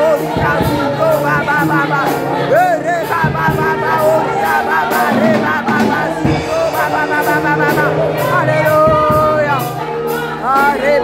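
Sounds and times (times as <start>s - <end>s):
electronic keyboard chords: 0.0s - 11.0s
high ticking beat: 0.0s - 11.0s
women singing gospel: 0.0s - 11.0s.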